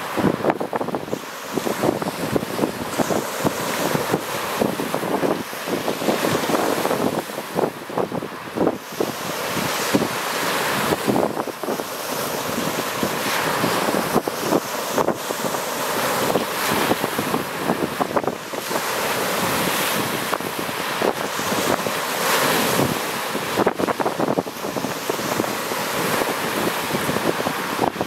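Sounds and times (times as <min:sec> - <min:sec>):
surf breaking on pebbly shore: 0:00.0 - 0:28.0
wind buffeting microphone: 0:00.0 - 0:28.0.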